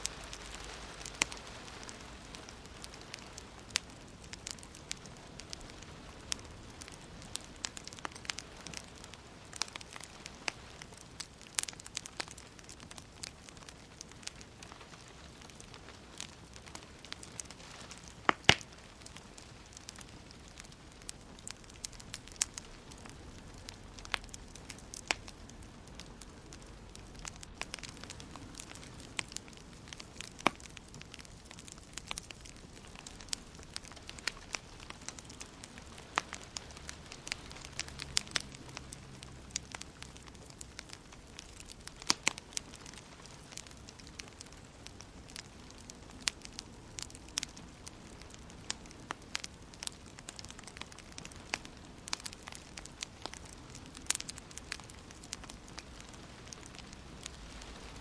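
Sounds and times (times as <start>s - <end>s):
soft hiss of burning: 0.0s - 58.0s
wood fire crackling and popping: 0.0s - 58.0s.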